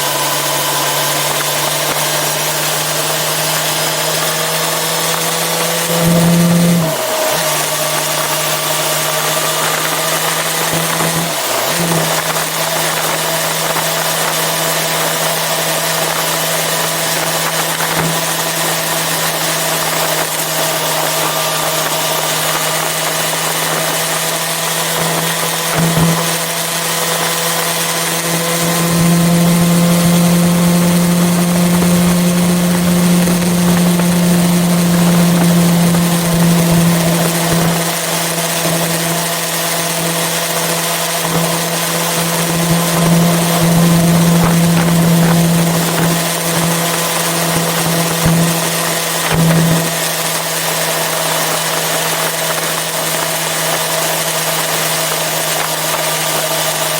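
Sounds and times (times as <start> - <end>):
motorcycle engine running: 0.0 - 56.9
wind and road noise: 0.0 - 56.9.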